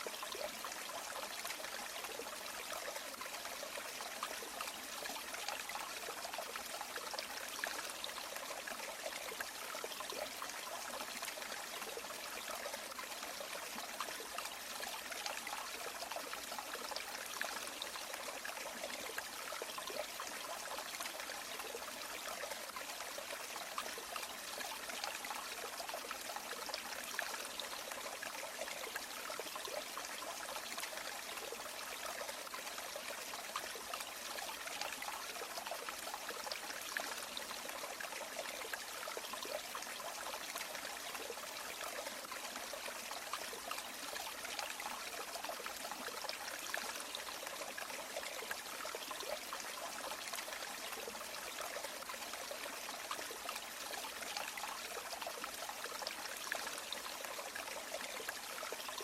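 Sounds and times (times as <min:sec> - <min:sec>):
stream water trickling over stones: 0:00.0 - 0:59.0.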